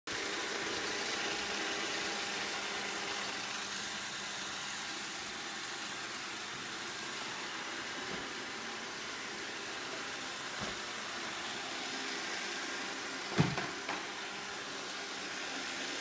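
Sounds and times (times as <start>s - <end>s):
robot vacuum whirring hum: 0.1s - 16.0s.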